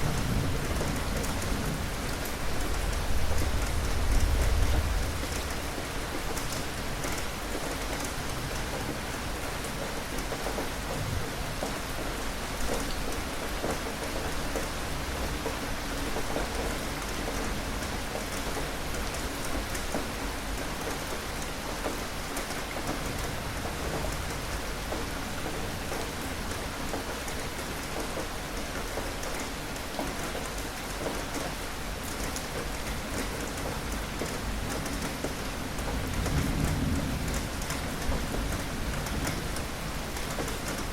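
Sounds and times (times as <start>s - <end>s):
raindrops ticking on a surface: 0.0s - 40.9s.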